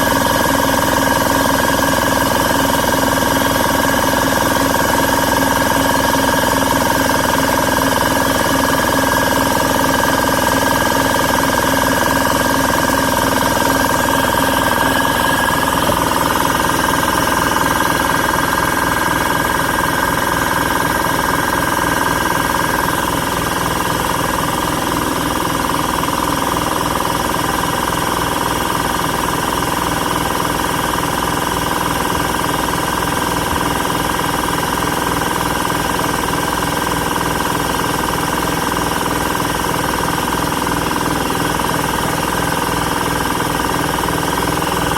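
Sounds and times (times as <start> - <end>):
air compressor motor humming: 0.0 - 44.9
compressor pump chattering: 0.0 - 44.9.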